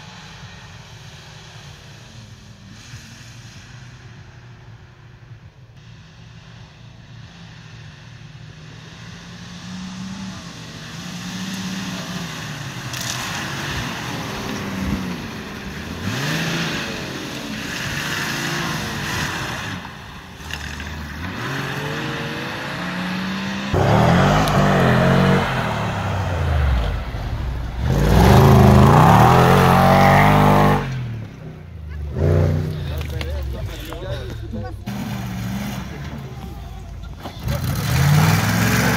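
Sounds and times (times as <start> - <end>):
off-road engines revving: 5.8 - 38.9.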